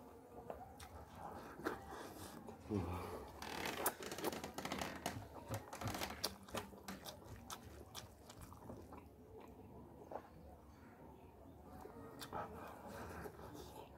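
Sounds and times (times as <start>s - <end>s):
chewing rice: 0.0s - 10.5s, 11.7s - 13.9s.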